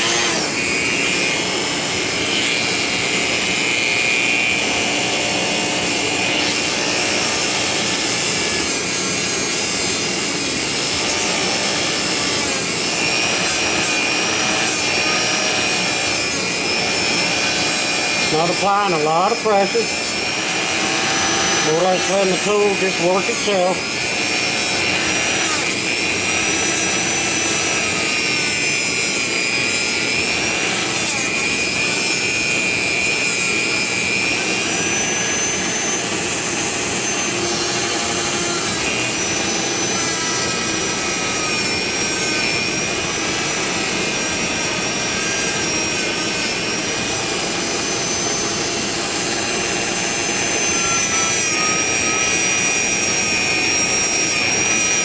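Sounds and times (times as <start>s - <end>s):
rotary tool high whine: 0.0s - 55.0s.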